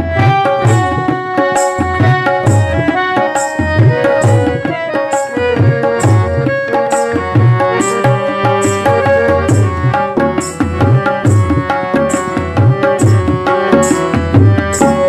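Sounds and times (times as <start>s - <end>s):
harmonium melody: 0.0s - 15.0s
tabla drumming: 0.0s - 15.0s.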